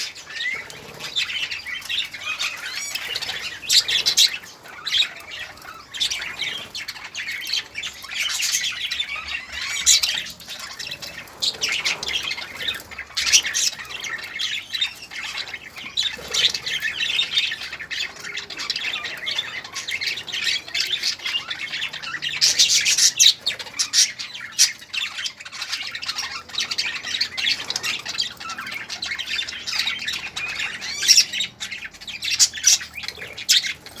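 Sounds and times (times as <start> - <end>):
budgerigars chattering and squawking: 0.0 - 34.0.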